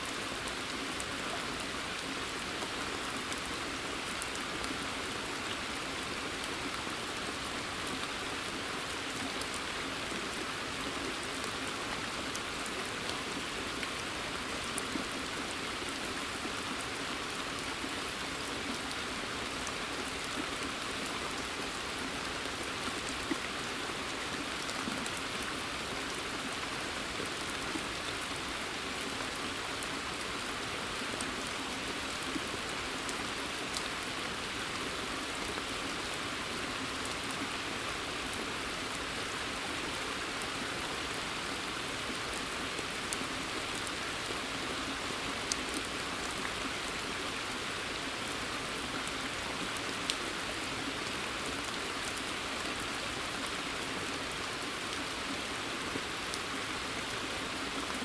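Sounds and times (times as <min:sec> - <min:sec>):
rain pattering on leaves: 0:00.0 - 0:58.0
raindrops on pond surface: 0:00.0 - 0:58.0.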